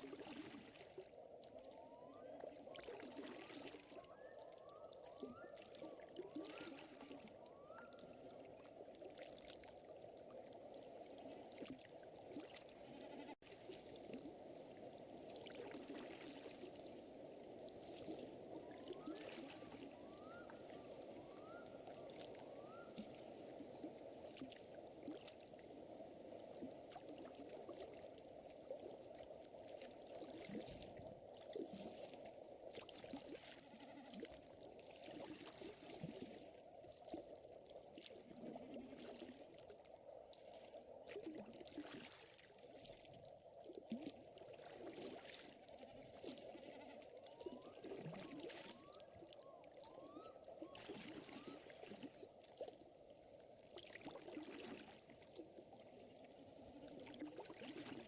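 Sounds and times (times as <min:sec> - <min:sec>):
water lapping and trickling: 0:00.0 - 0:58.0.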